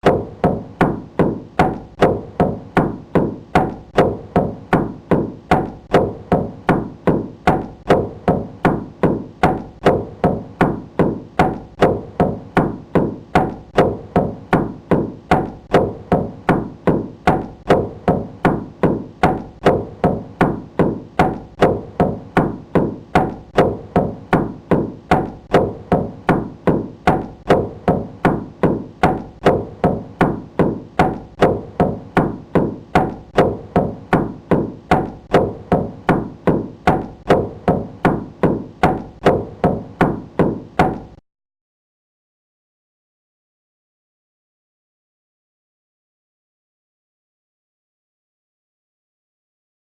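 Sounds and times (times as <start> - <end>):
knocking on wooden door: 0.0 - 41.2.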